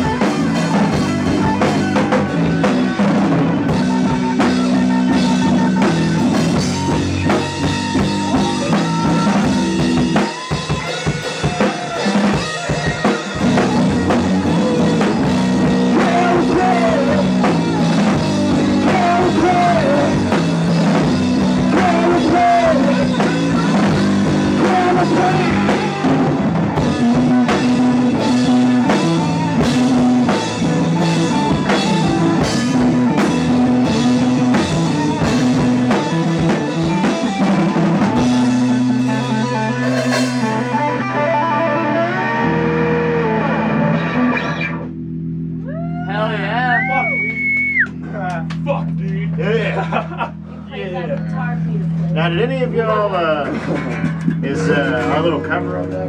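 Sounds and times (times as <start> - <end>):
drum kit beat: 0.0 - 43.7, 52.9 - 56.0
bass guitar: 0.0 - 56.0
electric guitars: 0.0 - 56.0.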